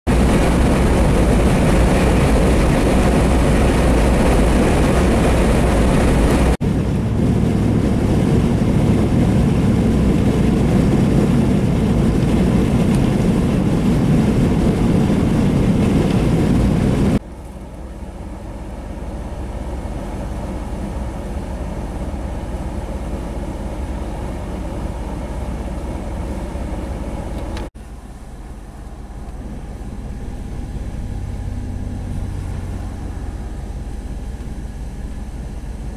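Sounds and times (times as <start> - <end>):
blizzard wind buffeting microphone: 0.1 - 35.9.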